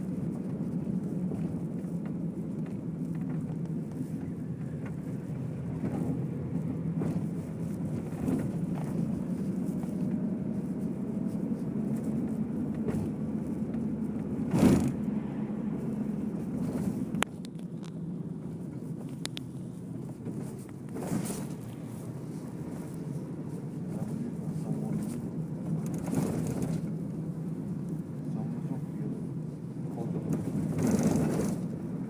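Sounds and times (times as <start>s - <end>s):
vehicle rumble in motion: 0.0s - 32.0s.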